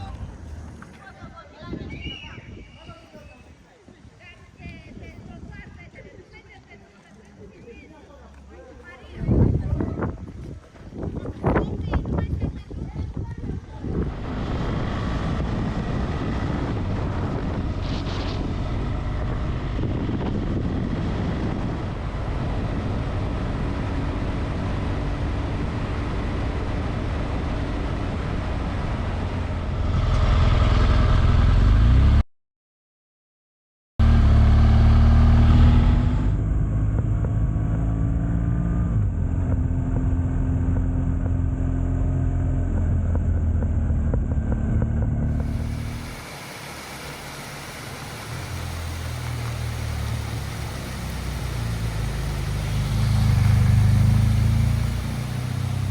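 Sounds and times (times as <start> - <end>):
road and wind noise: 0.0 - 32.2, 34.0 - 55.9.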